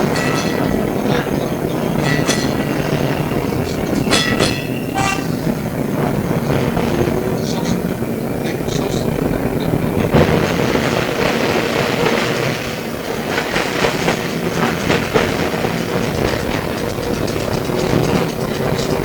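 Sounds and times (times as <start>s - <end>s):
faint steady hum: 0.0s - 19.0s
tram wheels rumbling on rail: 0.0s - 19.0s.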